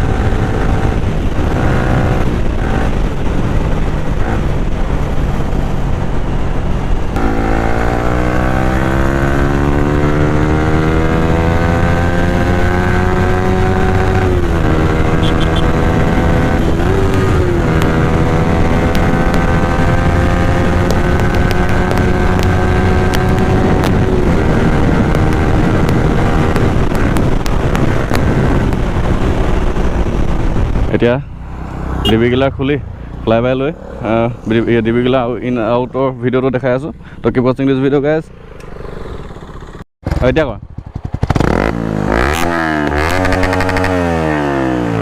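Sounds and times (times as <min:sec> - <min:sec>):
motorcycle engine running: 0:00.0 - 0:34.8, 0:38.3 - 0:43.9.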